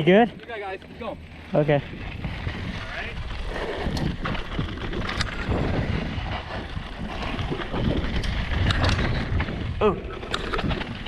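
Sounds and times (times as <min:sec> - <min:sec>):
bike chain rattling: 0:00.0 - 0:11.0
tyres rumbling on dirt: 0:00.0 - 0:11.0
wind on microphone: 0:01.2 - 0:11.0.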